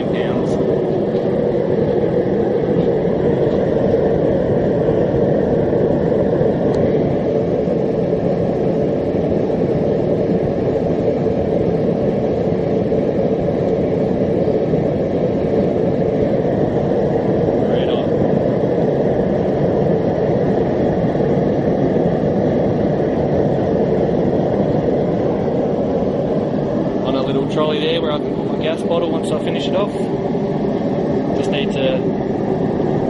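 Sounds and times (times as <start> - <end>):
gas forge burners rushing: 0.0 - 33.0.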